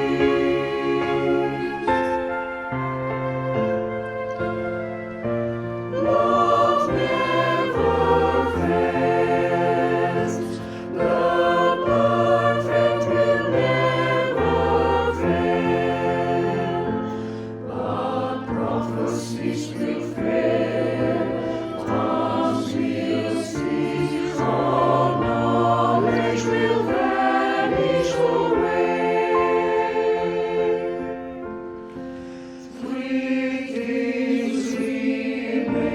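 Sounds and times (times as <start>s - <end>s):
choir singing in harmony: 0.0s - 35.9s.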